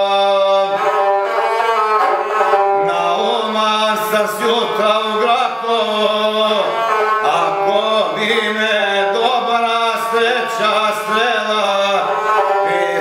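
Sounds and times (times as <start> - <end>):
man chanting a song: 0.0 - 1.5, 2.8 - 13.0
bowed string fiddle: 0.0 - 13.0.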